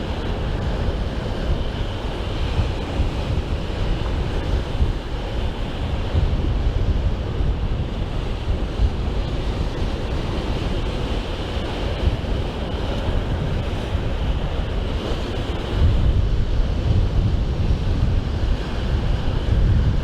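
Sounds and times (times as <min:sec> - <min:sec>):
waves: 0:00.0 - 0:20.0
wind blowing on microphone: 0:00.0 - 0:20.0.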